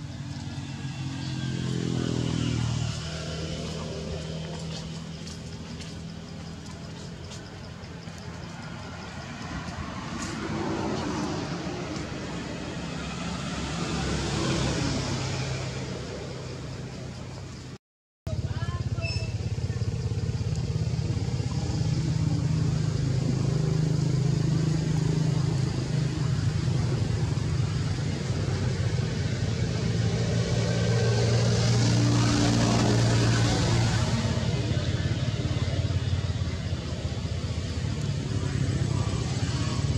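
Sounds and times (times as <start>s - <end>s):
vehicle engine passing: 0.0s - 17.4s, 18.4s - 39.9s.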